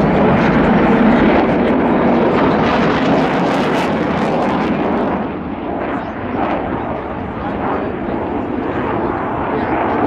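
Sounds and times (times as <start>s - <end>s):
jet engines flying past: 0.0s - 10.0s.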